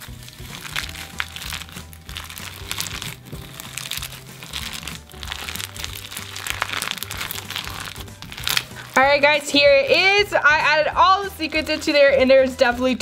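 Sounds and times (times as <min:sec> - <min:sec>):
slime crunching and crackling: 0:00.0 - 0:10.0, 0:11.0 - 0:13.0
background music with bass: 0:00.0 - 0:13.0.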